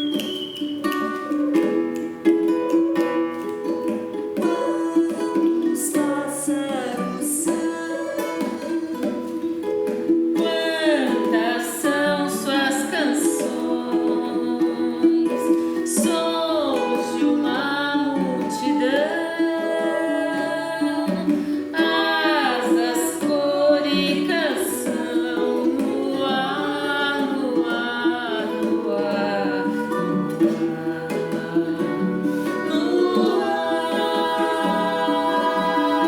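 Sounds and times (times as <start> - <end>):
plucked guitar: 0.0 - 36.0
women singing: 0.0 - 36.0.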